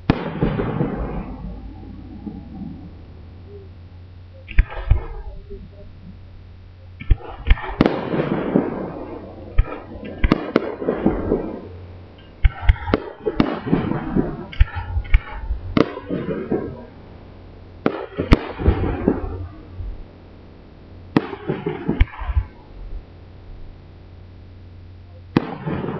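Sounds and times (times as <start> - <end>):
fireworks bursting with crackle: 0.0 - 25.9.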